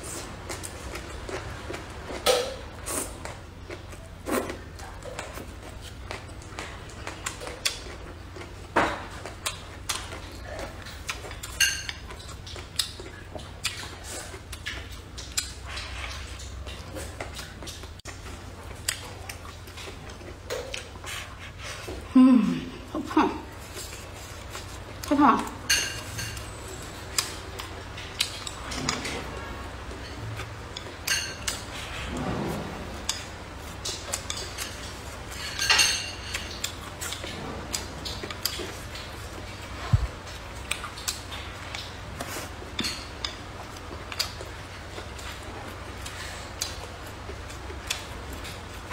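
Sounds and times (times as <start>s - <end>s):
person chewing food: 0.0s - 22.2s, 23.5s - 25.1s, 25.7s - 32.0s, 32.9s - 48.9s.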